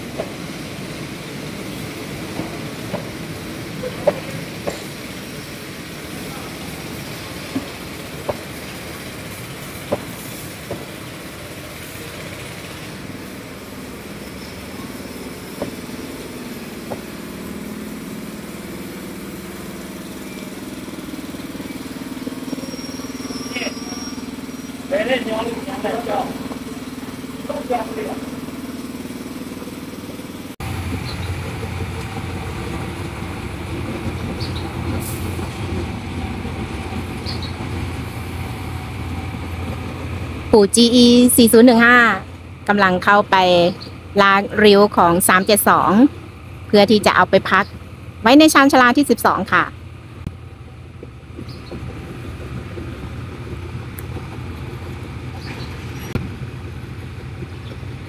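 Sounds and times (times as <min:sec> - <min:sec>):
locomotive diesel engine rumbling: 0:00.0 - 0:58.0.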